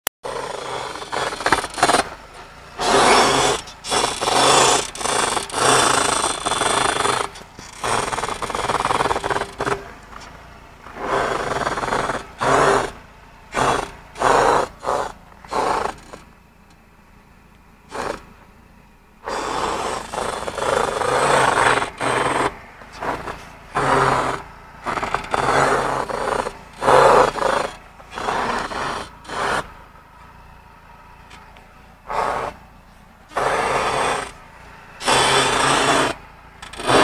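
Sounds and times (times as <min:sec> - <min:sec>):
car suspension squeaking and creaking: 0:00.2 - 0:37.0.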